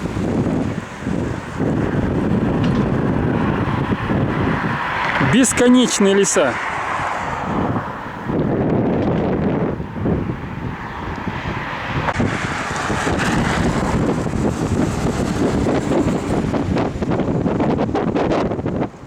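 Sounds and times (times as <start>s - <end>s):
moving car rumble: 0.0s - 19.0s
wind buffeting microphone: 0.0s - 19.0s.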